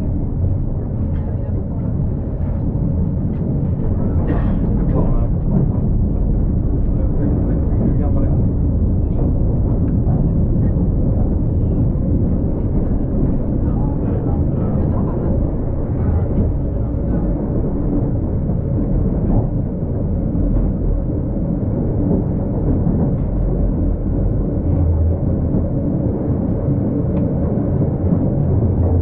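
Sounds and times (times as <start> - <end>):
tram rumbling: 0.0 - 29.0.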